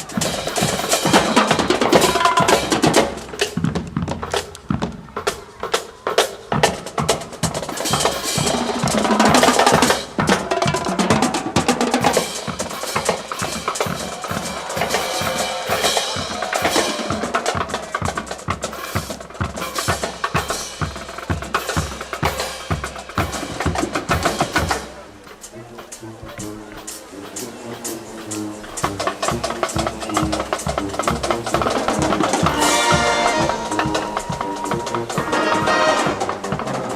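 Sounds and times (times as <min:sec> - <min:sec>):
snare and bass drum beat: 0:00.0 - 0:36.9
wind and brass lines: 0:00.0 - 0:36.9.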